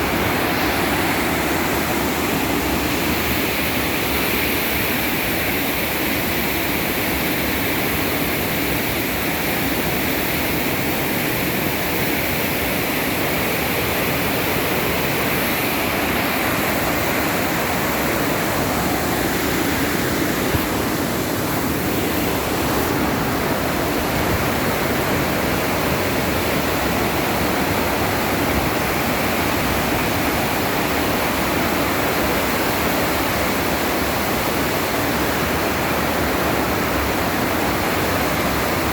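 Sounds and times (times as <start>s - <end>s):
floodwater gushing: 0.0s - 38.9s.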